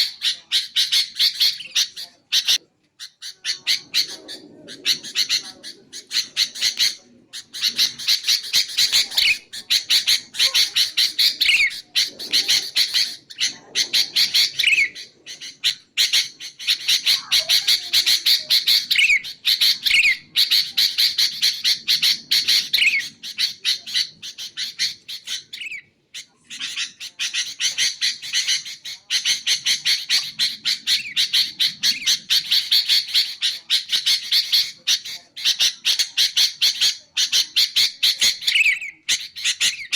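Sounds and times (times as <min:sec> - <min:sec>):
bulbul chattering: 0:00.0 - 0:39.9.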